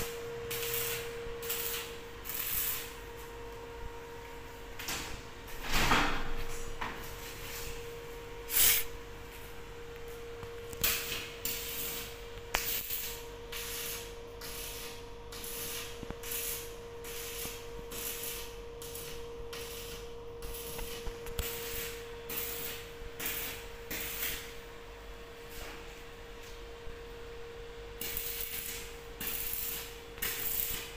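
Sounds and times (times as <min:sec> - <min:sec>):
arc welding crackle: 0:00.0 - 0:05.2, 0:06.1 - 0:26.6, 0:27.9 - 0:30.9.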